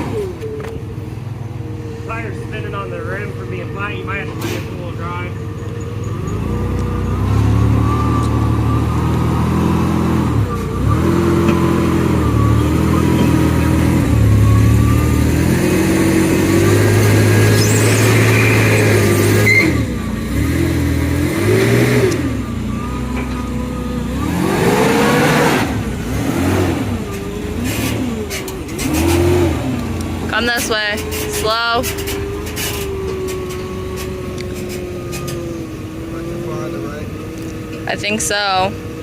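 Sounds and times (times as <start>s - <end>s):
car engine revving: 2.0s - 38.7s.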